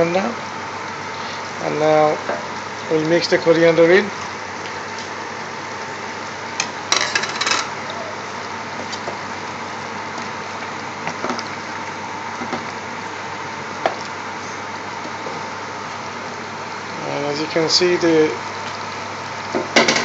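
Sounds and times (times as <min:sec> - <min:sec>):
curry bubbling: 0:00.4 - 0:19.8.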